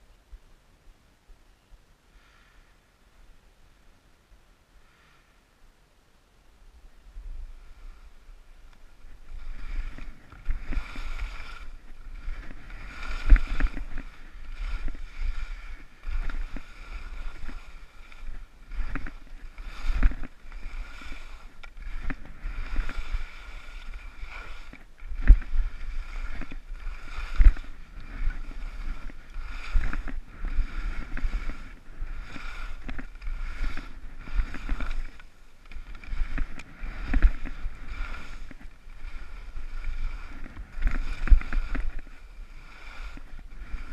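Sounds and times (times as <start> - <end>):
skis scraping over snow: 6.9 - 43.9
skis thumping on bumps: 8.6 - 43.9.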